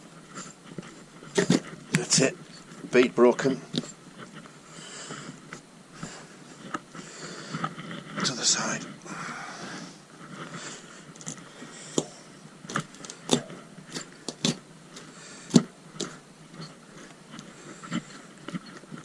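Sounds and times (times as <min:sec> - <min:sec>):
faint rustling: 0:00.0 - 0:19.0.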